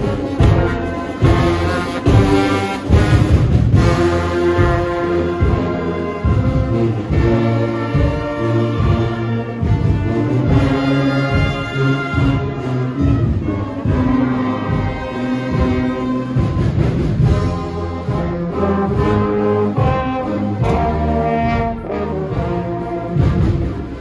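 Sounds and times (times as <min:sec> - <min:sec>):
brass band playing: 0:00.0 - 0:24.0
steady drum beat: 0:00.0 - 0:24.0.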